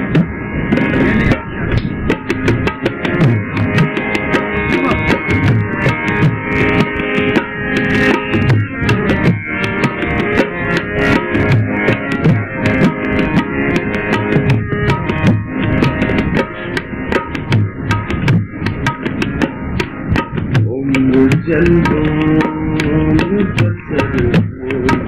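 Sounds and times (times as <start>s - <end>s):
harmonium melody: 0.0s - 25.0s
tabla playing a steady rhythm: 0.0s - 25.0s.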